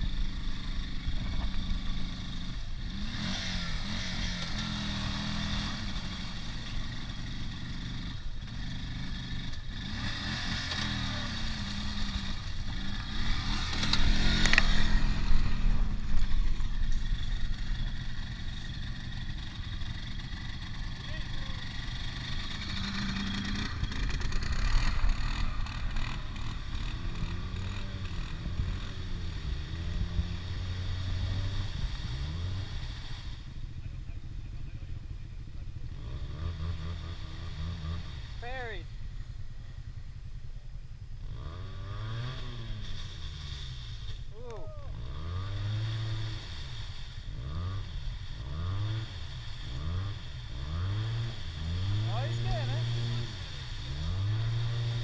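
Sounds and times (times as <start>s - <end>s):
engine revving in mud: 0.0s - 34.6s, 35.8s - 38.8s, 41.2s - 55.0s
quad bike pulling away: 0.0s - 55.0s.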